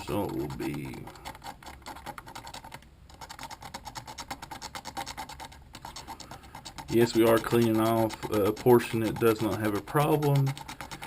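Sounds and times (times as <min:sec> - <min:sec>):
razor blade scraping plastic: 0:00.0 - 0:11.0.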